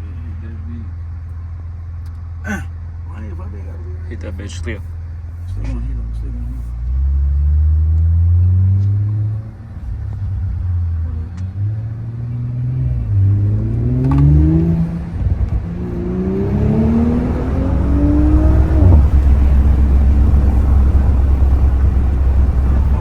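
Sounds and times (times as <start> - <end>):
car engine accelerating hard: 2.5 - 23.0.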